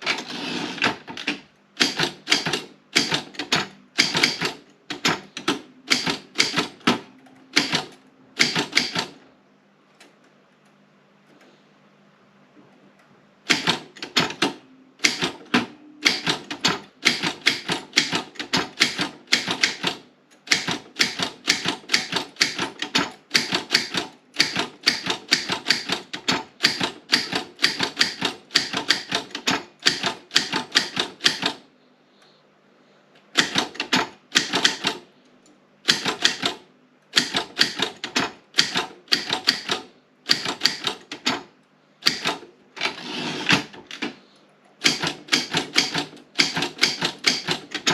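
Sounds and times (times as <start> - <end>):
typewriter key strikes: 0.0 - 9.2, 13.5 - 31.6, 33.4 - 35.0, 35.8 - 44.1, 44.8 - 47.9.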